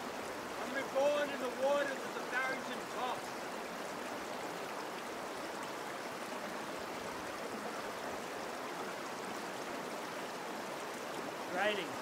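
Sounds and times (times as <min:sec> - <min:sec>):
creek running over rocks: 0:00.0 - 0:12.0.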